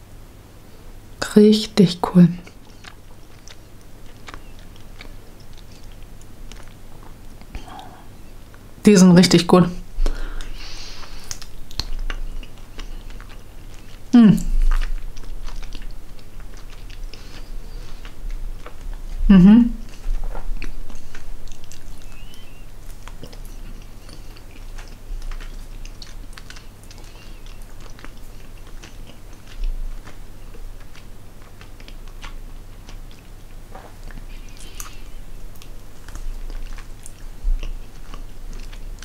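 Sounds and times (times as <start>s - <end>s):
person chewing wet mouth smacks: 2.4s - 8.6s, 10.0s - 39.0s.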